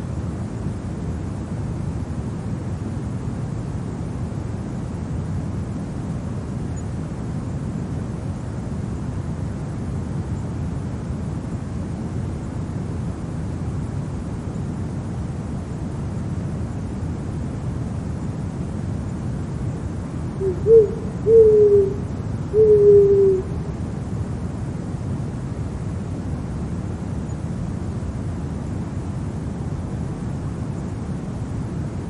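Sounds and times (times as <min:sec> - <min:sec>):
low steady wind: 0:00.0 - 0:32.0.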